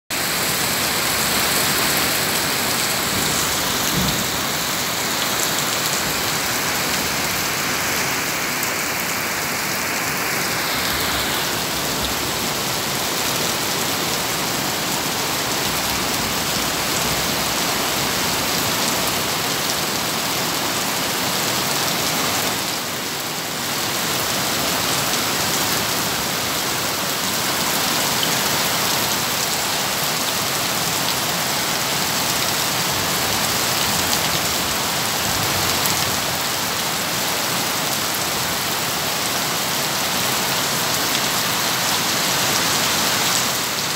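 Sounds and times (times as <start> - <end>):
heavy rain pouring: 0.1 - 43.9.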